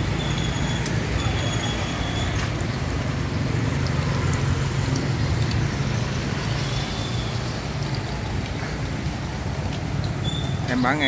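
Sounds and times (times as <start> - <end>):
motorbike engines running: 0.0 - 11.0
street traffic rumble: 0.0 - 11.0.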